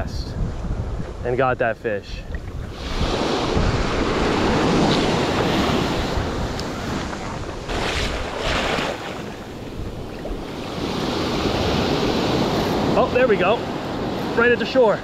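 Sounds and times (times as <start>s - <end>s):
wind buffeting microphone: 0.0s - 15.0s
ocean surf breaking: 2.5s - 15.0s.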